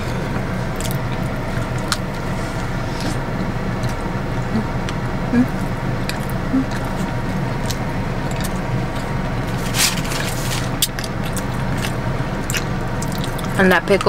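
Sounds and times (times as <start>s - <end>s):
car engine hum inside cabin: 0.0s - 14.0s.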